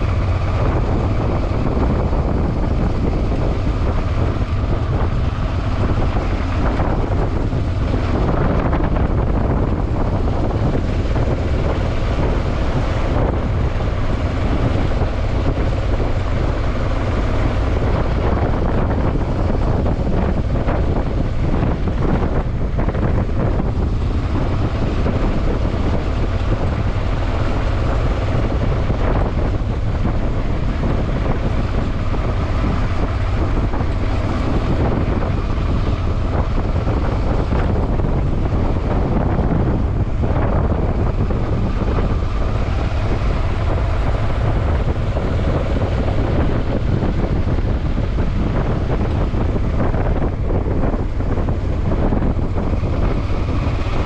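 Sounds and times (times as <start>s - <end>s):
steady low rumble: 0.0s - 54.0s
wind buffeting microphone: 0.0s - 54.0s.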